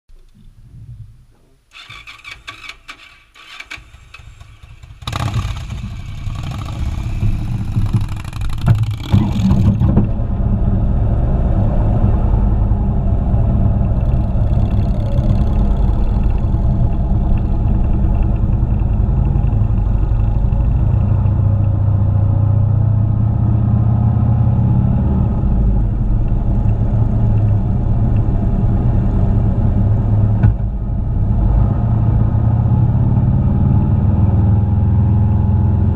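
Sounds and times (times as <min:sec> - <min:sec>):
motorcycle engine running: 0:03.9 - 0:35.9.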